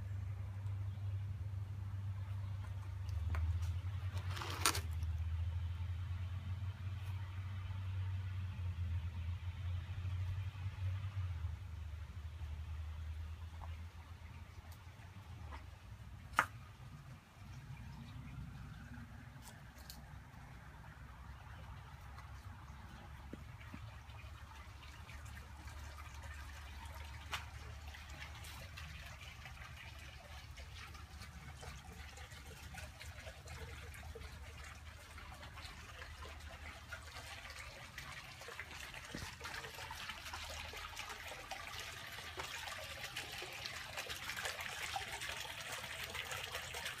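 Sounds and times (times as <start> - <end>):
pond fountain splashing: 0.0 - 47.0.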